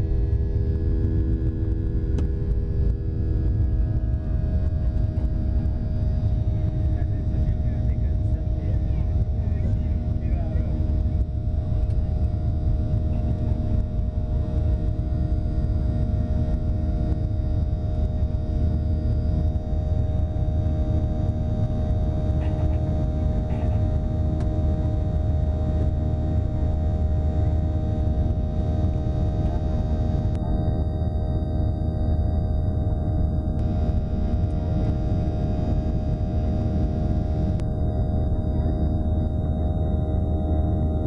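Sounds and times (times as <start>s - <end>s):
jet airliner cabin rumble: 0.0s - 41.0s.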